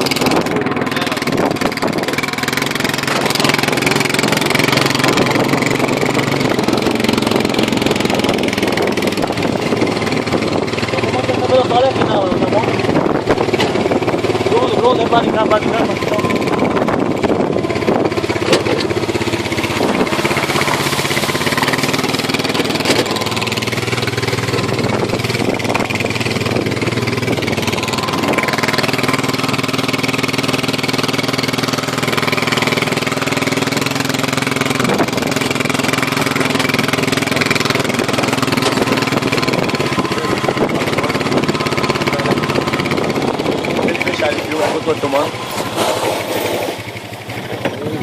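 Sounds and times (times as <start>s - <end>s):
quad bike engine running: 0.0s - 48.0s.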